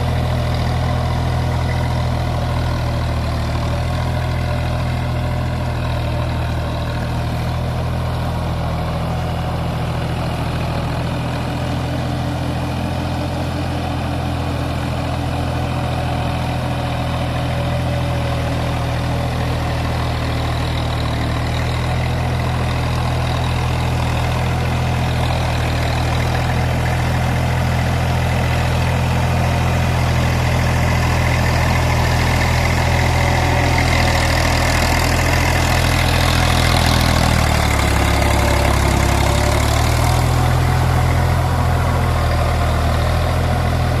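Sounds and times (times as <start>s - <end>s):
tractor diesel engine idling: 0.0s - 44.0s.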